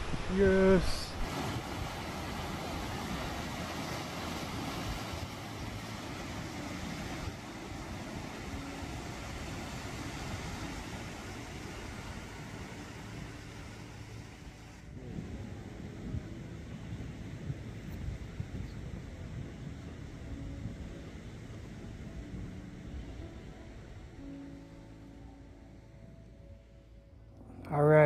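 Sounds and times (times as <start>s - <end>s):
wind rushing: 0.0s - 24.4s
ocean surf: 0.0s - 26.1s.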